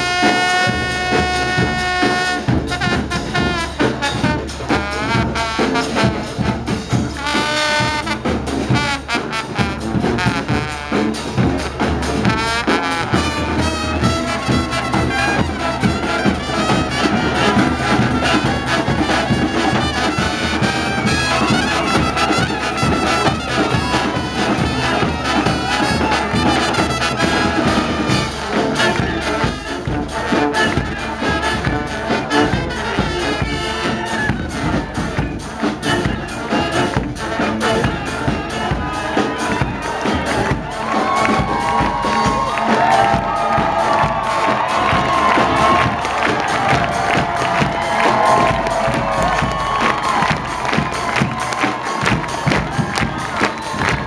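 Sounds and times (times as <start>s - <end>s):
brass marching band playing: 0.0s - 54.0s.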